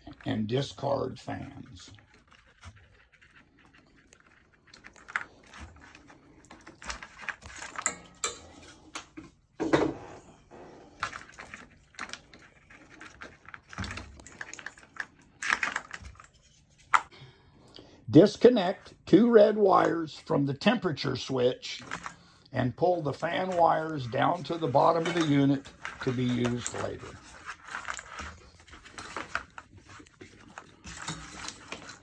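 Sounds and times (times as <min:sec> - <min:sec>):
clicks and knocks of wiring work: 0:00.0 - 0:09.7, 0:10.9 - 0:17.1, 0:21.7 - 0:32.0.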